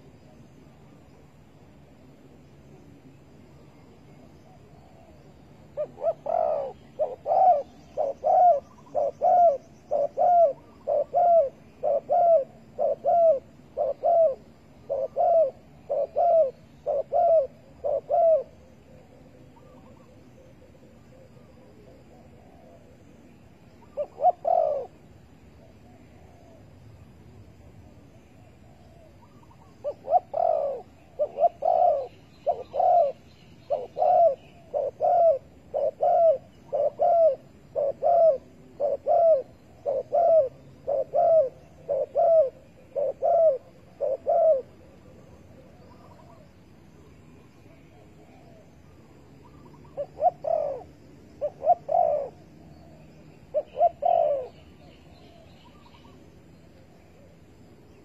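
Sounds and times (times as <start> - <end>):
dove cooing: 4.4 - 26.8, 28.6 - 46.6, 47.7 - 56.2.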